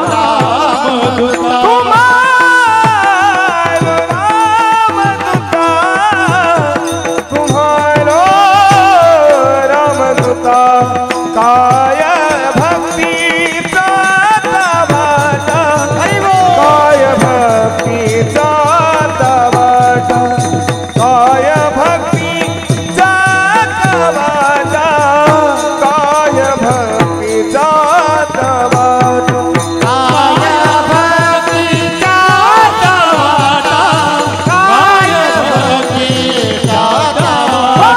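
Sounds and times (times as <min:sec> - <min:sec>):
drum beats: 0:00.0 - 0:37.9
men singing devotional song: 0:00.0 - 0:37.9.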